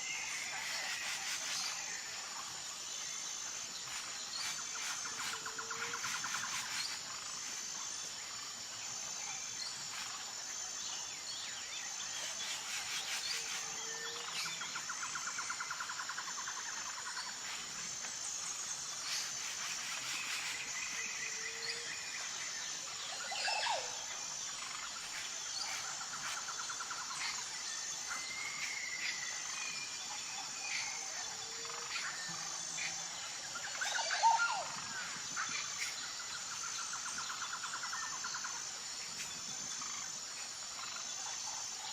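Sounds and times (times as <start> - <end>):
pulsing insect drone: 0.0 - 41.9.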